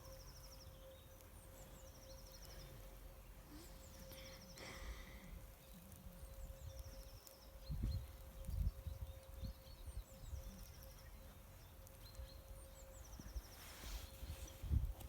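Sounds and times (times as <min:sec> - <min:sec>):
songbird singing: 0:00.0 - 0:14.9
faint steady hum: 0:00.0 - 0:15.0.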